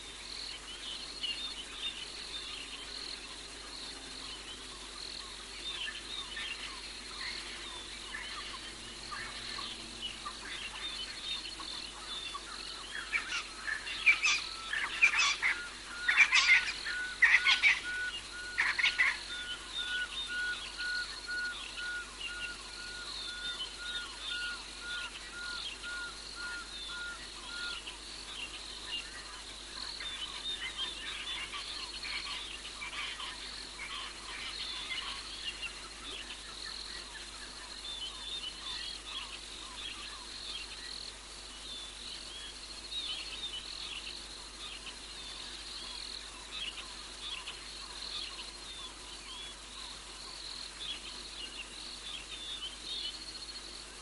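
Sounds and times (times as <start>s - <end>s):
insects and frogs calling: 0.0s - 54.0s.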